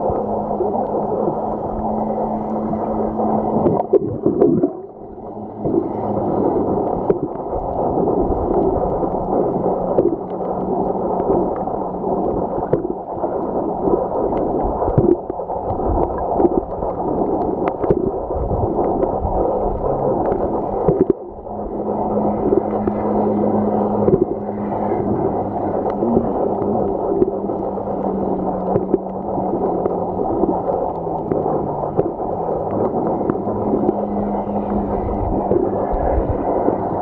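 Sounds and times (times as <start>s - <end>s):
steady low hum: 0.0s - 37.0s
water sloshing and gurgling: 0.0s - 37.0s.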